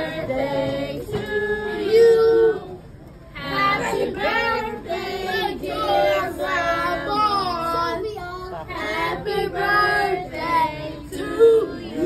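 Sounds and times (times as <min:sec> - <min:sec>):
group of people singing together: 0:00.0 - 0:08.0, 0:08.7 - 0:12.0.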